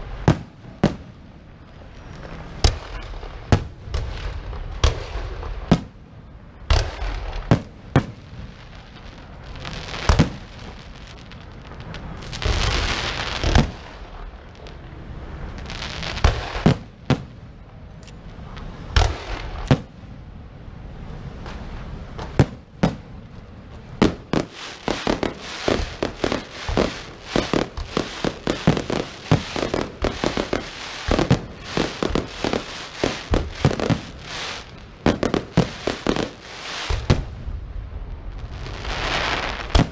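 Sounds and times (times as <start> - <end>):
firework bangs: 0.0 - 39.9
hissing firework bursts: 0.0 - 39.9.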